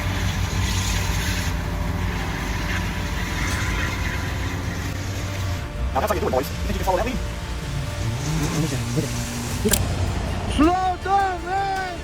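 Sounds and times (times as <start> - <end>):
road and wind noise hiss: 0.0 - 10.8
vehicle engine droning: 0.0 - 11.1.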